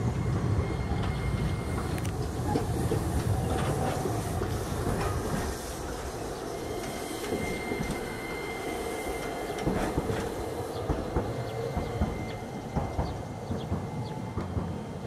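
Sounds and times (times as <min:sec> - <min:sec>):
tram rumble: 0:00.0 - 0:15.0
tram wheels clacking over track: 0:00.4 - 0:15.0.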